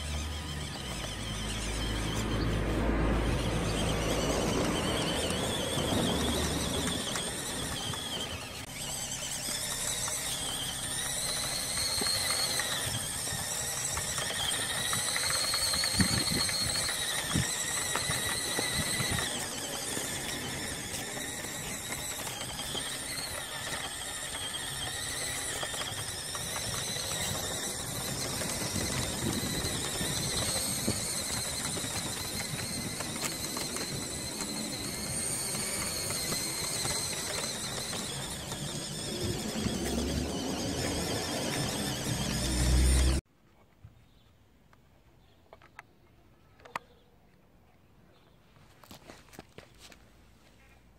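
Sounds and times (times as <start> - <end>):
toy truck motor whining: 0.0 - 43.2.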